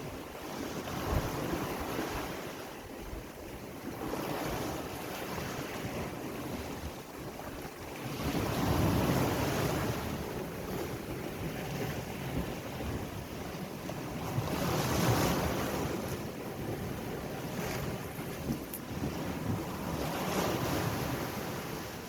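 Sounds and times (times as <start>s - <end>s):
sea waves washing in: 0.0s - 22.0s
wind buffeting microphone: 0.0s - 22.0s.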